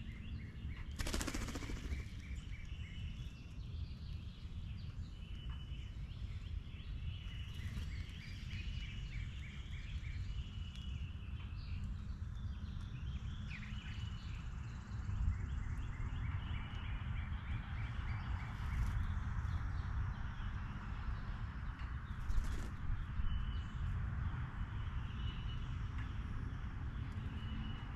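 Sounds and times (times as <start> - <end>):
songbirds singing: 0.0 - 27.9.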